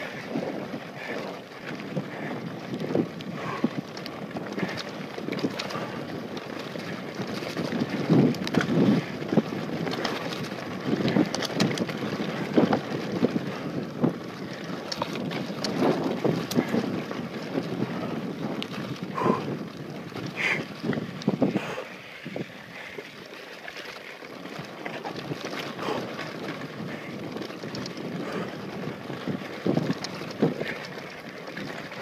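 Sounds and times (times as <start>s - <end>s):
wind buffeting microphone: 0.0s - 23.2s, 24.3s - 32.0s
bike rattling over bumps: 0.0s - 32.0s
bike tyres rolling on gravel: 0.0s - 32.0s.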